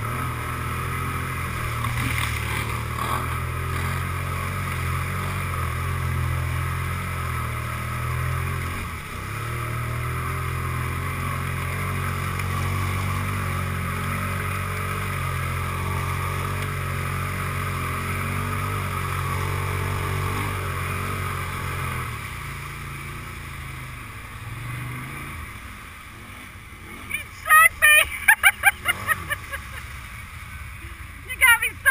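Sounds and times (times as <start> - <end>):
quad bike engine running: 0.0 - 31.9.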